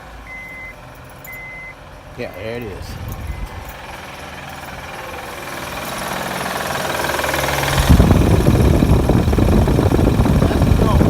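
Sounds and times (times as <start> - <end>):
car engine running: 0.0 - 11.0
engine rattle: 0.0 - 11.0.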